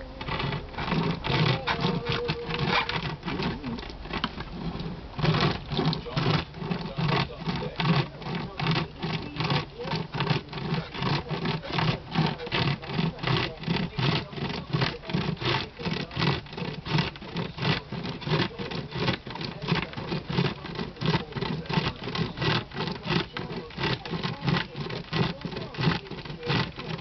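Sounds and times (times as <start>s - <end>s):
hand chainsaw rasping through wood: 0.0s - 27.0s.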